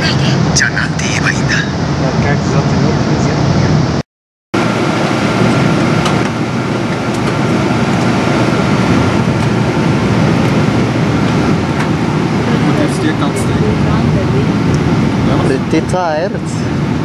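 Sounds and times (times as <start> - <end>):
airliner cabin engine rush: 0.0 - 4.0, 4.6 - 17.0.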